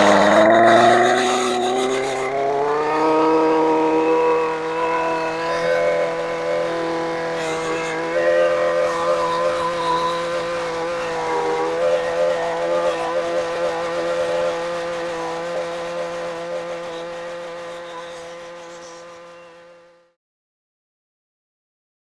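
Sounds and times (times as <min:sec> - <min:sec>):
string trimmer engine running: 0:00.0 - 0:20.1.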